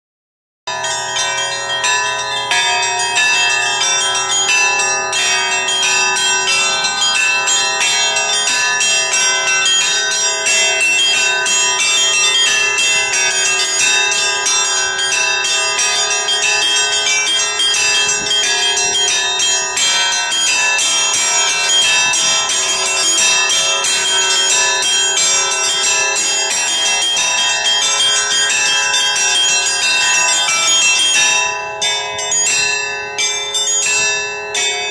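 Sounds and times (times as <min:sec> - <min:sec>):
church bells pealing: 0:00.7 - 0:34.9.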